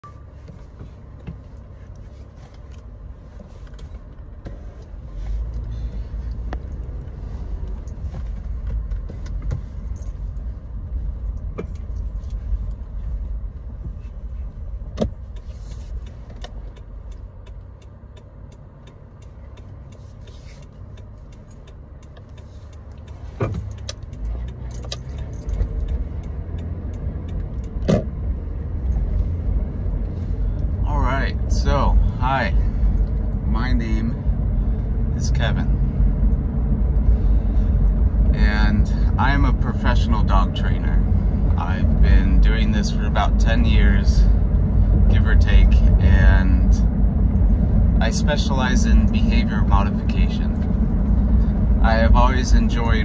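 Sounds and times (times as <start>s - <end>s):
car engine rumble inside cabin: 0.0s - 53.0s.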